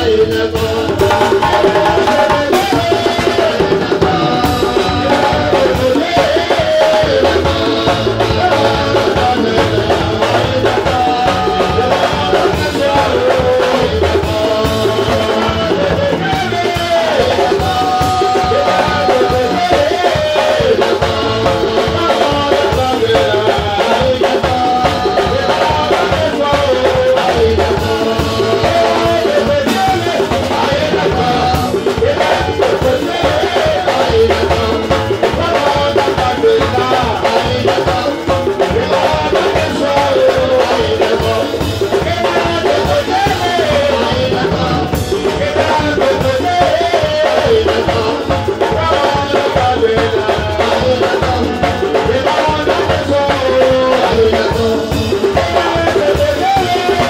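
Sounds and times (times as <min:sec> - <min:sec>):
percussion fast steady beat: 0:00.0 - 0:57.0
voices singing through a pa: 0:00.0 - 0:57.0.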